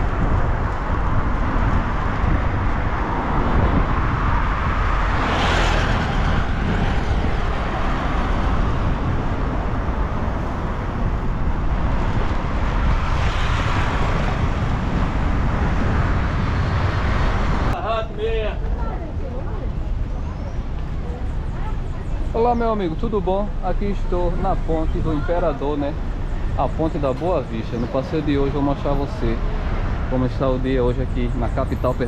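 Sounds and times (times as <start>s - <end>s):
road traffic rumble: 0.0s - 32.0s
vehicle passing: 0.0s - 32.0s.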